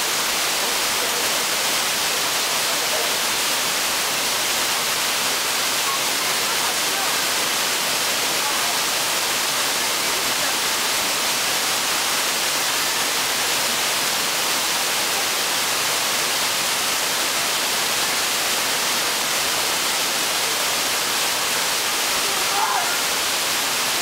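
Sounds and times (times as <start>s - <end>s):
waterfall rushing onto rock: 0.0s - 24.0s.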